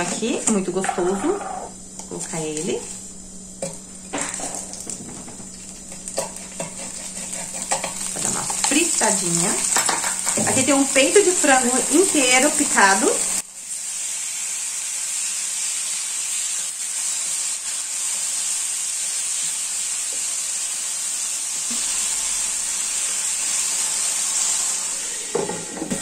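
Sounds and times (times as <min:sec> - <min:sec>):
chicken sizzling in oil: 0:04.2 - 0:26.0.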